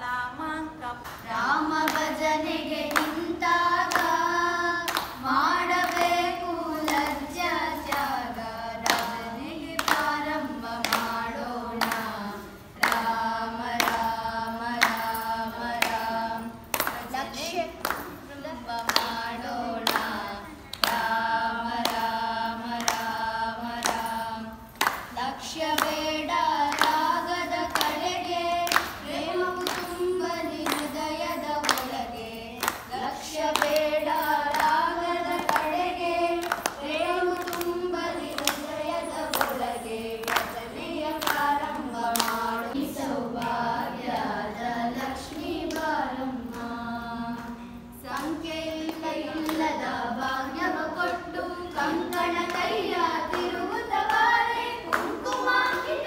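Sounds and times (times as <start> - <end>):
women singing in unison: 0.0 - 56.0
hand claps: 1.0 - 56.0.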